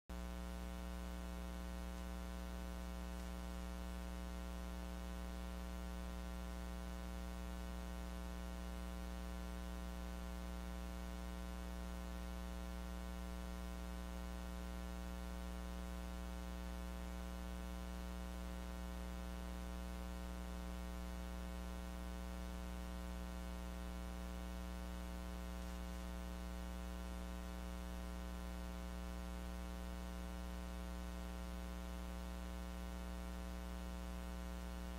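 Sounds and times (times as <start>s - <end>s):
electrical mains hum: 0.1s - 34.9s.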